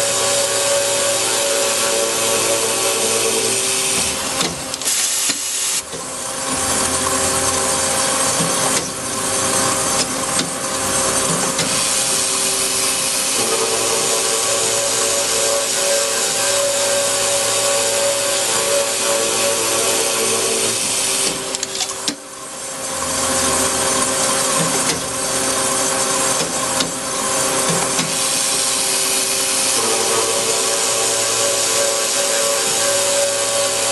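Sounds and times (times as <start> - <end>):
saw cutting metal bar: 0.0 - 33.9.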